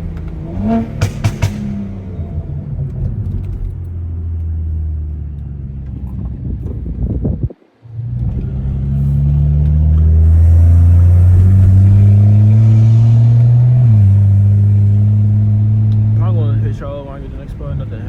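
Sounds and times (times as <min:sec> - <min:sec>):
car exhaust accelerating: 0:00.0 - 0:07.2, 0:07.9 - 0:18.0.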